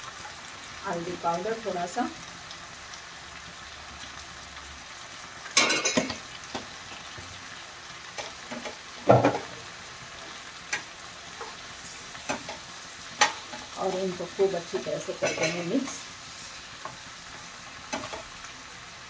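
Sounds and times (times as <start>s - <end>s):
onions frying in oil: 0.0s - 19.0s.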